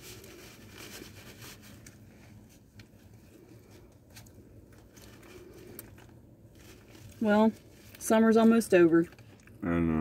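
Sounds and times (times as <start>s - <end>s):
paper napkin and wrappers rustling: 0.0s - 9.3s
low steady hum: 0.0s - 10.0s.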